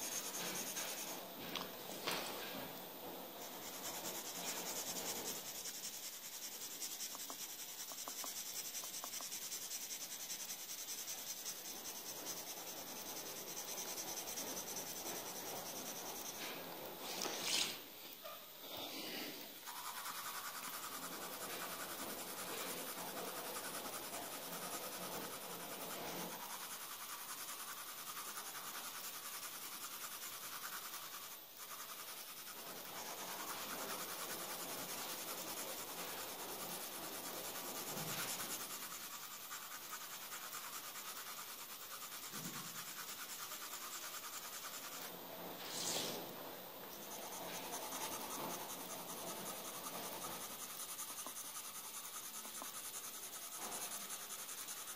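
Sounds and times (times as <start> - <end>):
pencil shading on paper: 0.0 - 17.8, 18.6 - 54.9.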